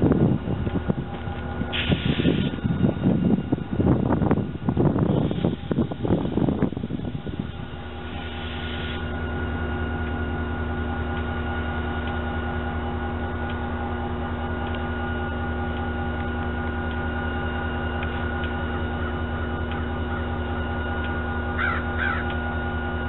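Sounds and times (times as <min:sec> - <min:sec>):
locomotive diesel engine running: 0:00.0 - 0:23.0.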